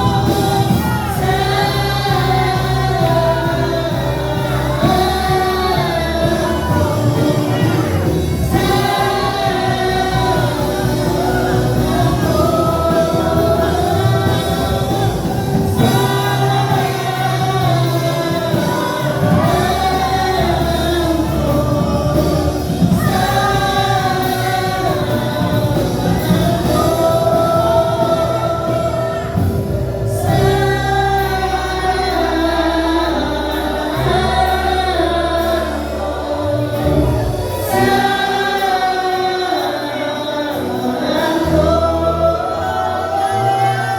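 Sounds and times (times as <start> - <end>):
band with steady bass: 0.0 - 43.9
gospel group singing: 0.0 - 43.9.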